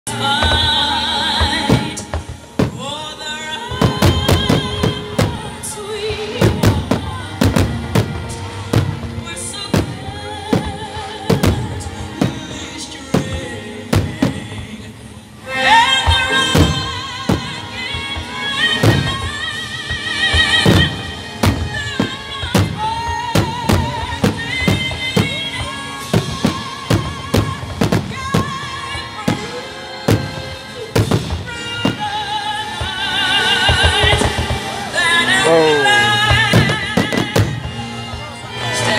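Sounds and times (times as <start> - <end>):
music: 0.0 - 38.9
song with singer: 0.0 - 38.9.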